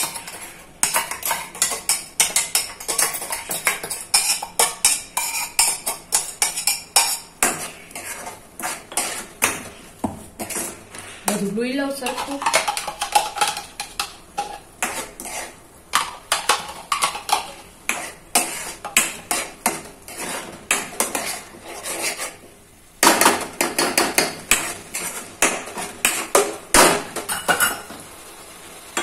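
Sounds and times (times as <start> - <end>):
spoon scraping a pot: 0.0 - 26.6.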